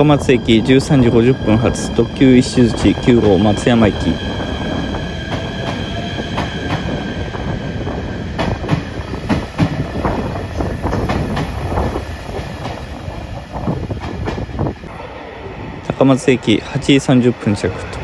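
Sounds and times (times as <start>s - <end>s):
train cars rumbling: 0.0s - 18.0s.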